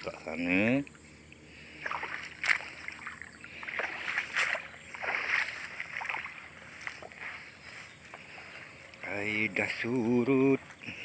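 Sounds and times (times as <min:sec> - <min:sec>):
footsteps splashing through water: 0:01.7 - 0:11.0.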